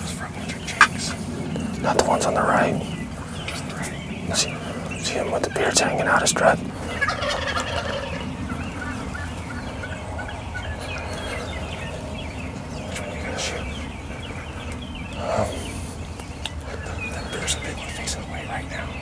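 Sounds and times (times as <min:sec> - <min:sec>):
turkeys calling and gobbling: 0:00.0 - 0:19.0.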